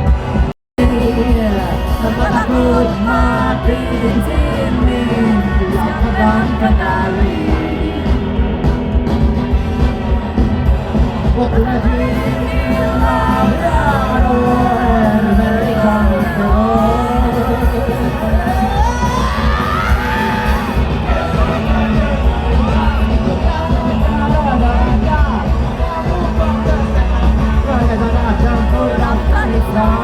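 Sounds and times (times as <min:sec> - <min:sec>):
band music with singing: 0:00.0 - 0:30.0
heavy bass: 0:00.0 - 0:30.0
shouted vocals: 0:00.8 - 0:08.3, 0:11.3 - 0:30.0.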